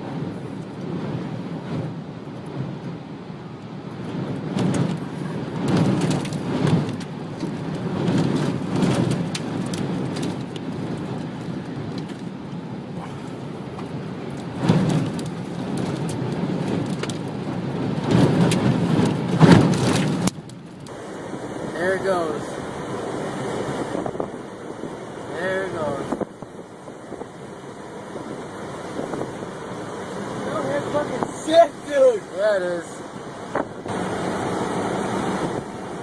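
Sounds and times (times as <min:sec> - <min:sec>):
wind gusting against a car: 0:00.0 - 0:36.0.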